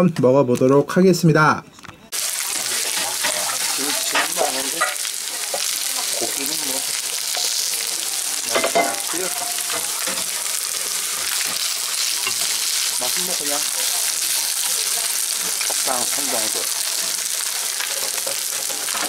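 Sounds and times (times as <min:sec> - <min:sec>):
rice sizzling in a frying pan: 0:02.1 - 0:19.0.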